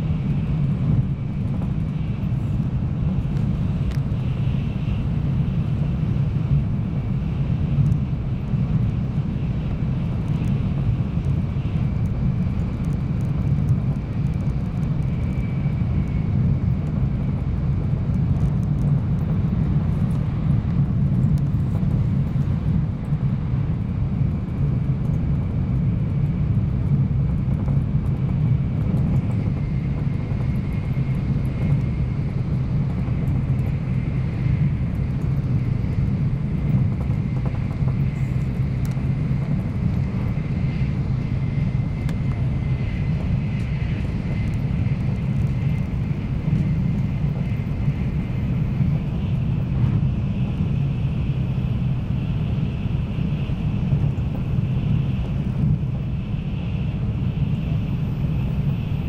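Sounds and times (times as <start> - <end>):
train rumbling on the track: 0.0 - 59.0.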